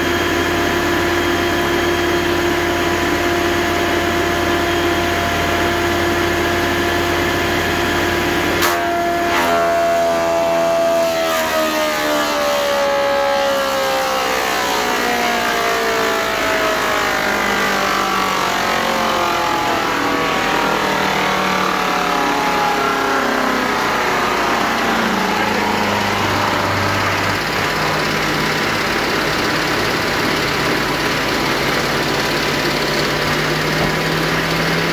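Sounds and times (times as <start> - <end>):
thickness planer running: 0.0 - 34.9.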